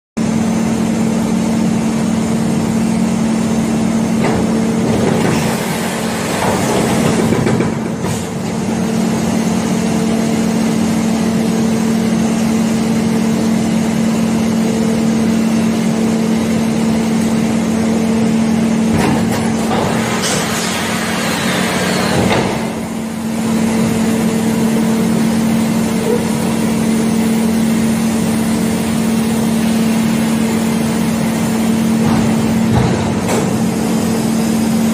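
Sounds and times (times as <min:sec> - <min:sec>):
mechanical hum: 0:00.2 - 0:34.9.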